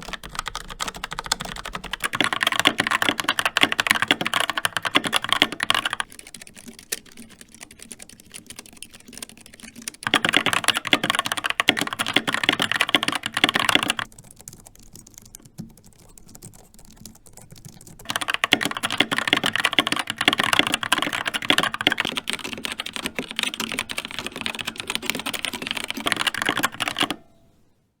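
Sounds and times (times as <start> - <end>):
mechanical keyboard typing: 0.0 - 27.3.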